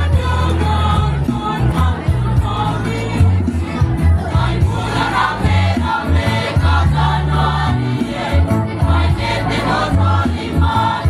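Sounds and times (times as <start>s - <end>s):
choir singing in harmony: 0.0s - 11.0s
deep bass line: 0.0s - 11.0s.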